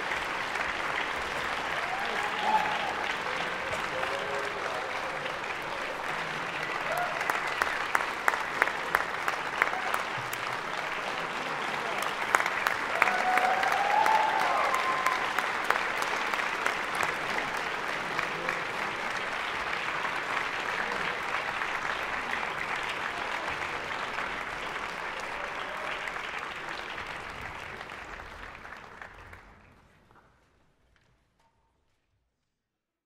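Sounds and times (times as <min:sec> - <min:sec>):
audience applauding: 0:00.0 - 0:30.2.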